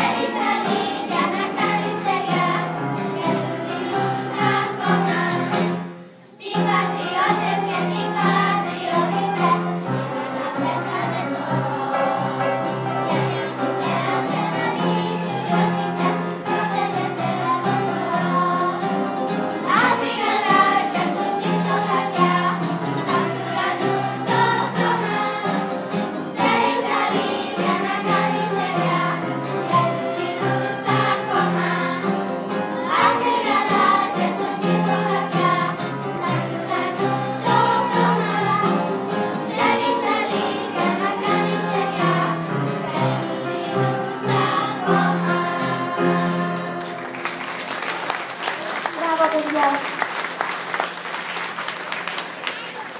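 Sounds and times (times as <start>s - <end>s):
children's choir singing: 0.0s - 48.6s.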